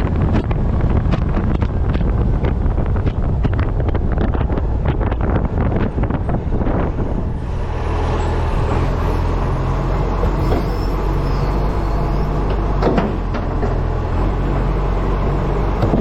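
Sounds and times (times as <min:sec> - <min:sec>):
diesel truck engine running: 0:00.0 - 0:16.0
wind buffeting microphone: 0:00.0 - 0:16.0.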